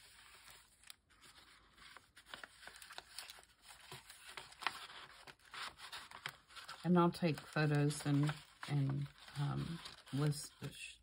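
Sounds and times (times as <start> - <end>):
paper cards rustling and sliding: 0.0 - 10.8.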